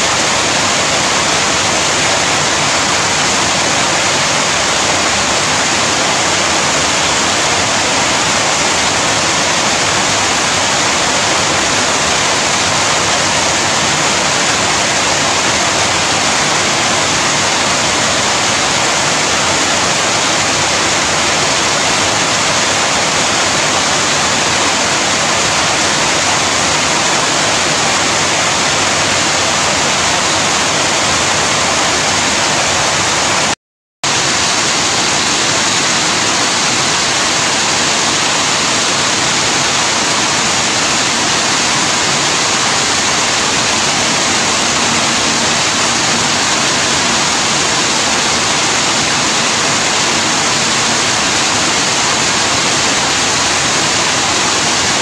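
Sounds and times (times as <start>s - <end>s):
rain falling steadily: 0.0s - 55.0s.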